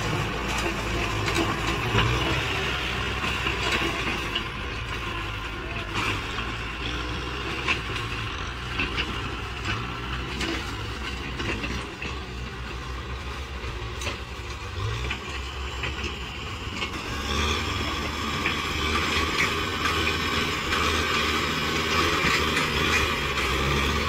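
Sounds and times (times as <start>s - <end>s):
dozer blade pushing soil: 0.0s - 24.0s
tractor diesel engine running: 0.0s - 24.0s.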